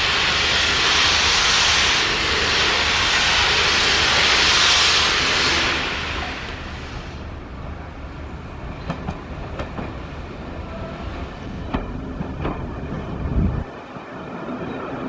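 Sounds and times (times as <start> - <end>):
railway coach rumbling: 0.0 - 15.0.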